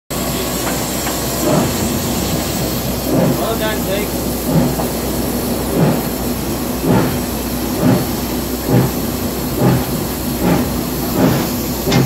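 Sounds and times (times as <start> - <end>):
steam locomotive firebox roar: 0.1 - 12.0.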